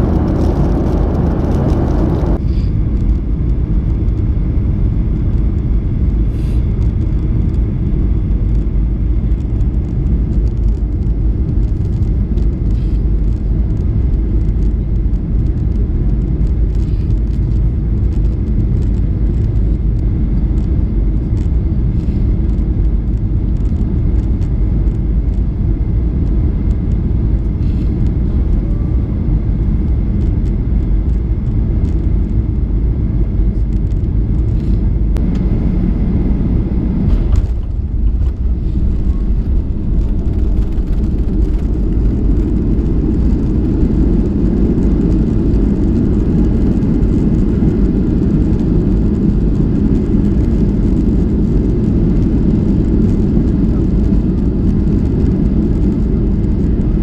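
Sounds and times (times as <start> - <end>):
jet engines rumbling in cabin: 0.0 - 57.0
wheels touching down on runway: 0.0 - 57.0.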